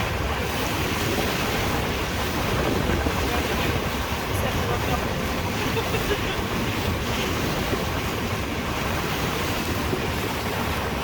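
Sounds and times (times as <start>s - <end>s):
sea water rushing: 0.0s - 11.0s
wind buffeting microphone: 0.0s - 11.0s.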